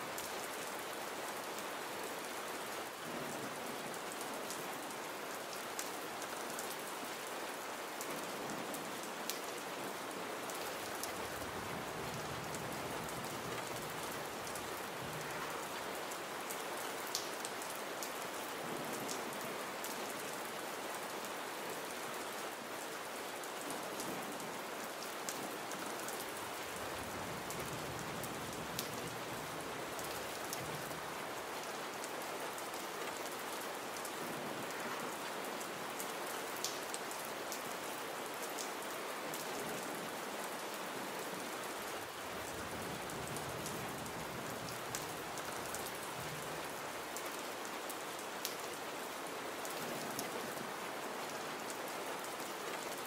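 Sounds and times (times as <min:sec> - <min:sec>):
gentle rain falling: 0:00.0 - 0:53.0.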